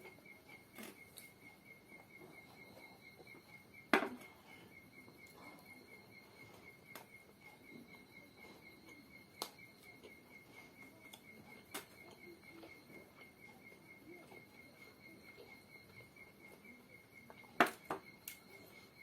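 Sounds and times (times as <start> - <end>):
rapidly pulsing high chirp: 0.0 - 19.0
soft chewing: 0.0 - 19.0.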